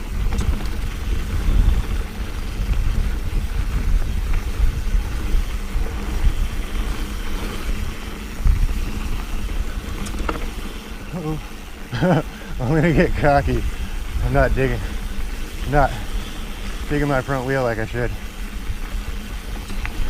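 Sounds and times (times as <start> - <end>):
bike tyres rumbling on dirt trail: 0.0 - 20.0
wind buffeting microphone: 0.0 - 20.0.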